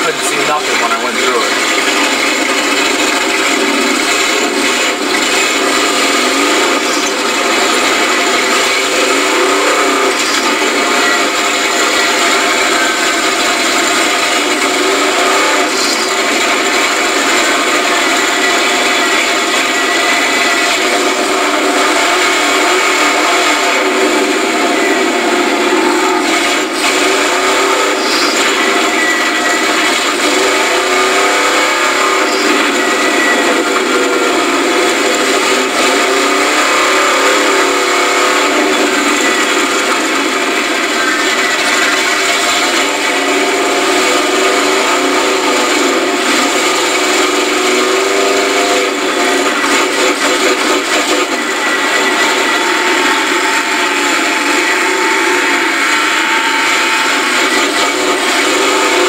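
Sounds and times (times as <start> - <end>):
truck engine running hard: 0.0 - 59.0.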